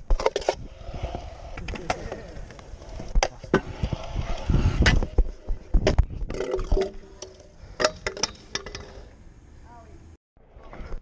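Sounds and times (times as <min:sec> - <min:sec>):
scooter wheel rumble: 0:00.0 - 0:09.3.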